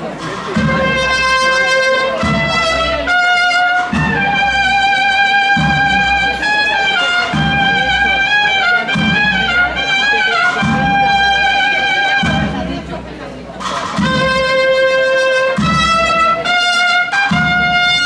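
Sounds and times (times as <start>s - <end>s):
brass band playing a march: 0.0s - 18.0s.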